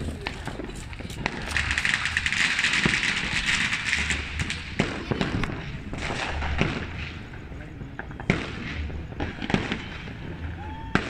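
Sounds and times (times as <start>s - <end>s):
firecrackers crackling: 0.0s - 11.0s
firework bangs: 0.0s - 11.0s.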